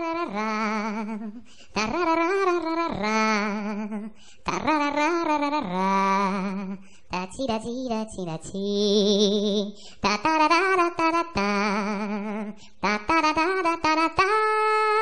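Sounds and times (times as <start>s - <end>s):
person singing wordless tune: 0.0s - 15.0s.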